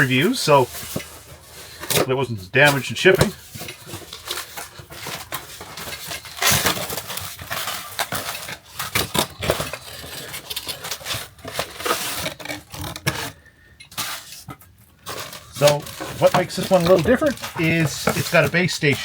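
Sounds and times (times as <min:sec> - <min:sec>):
packaging rustling: 0:00.0 - 0:19.0.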